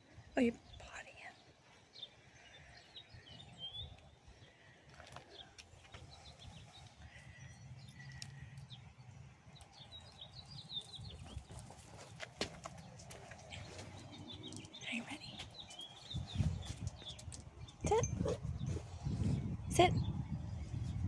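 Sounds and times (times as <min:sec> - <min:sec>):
small birds chirping: 0:00.4 - 0:21.0.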